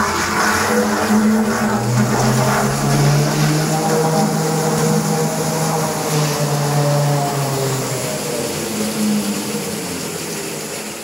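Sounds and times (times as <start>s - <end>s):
mixer motors humming: 0.0s - 10.9s.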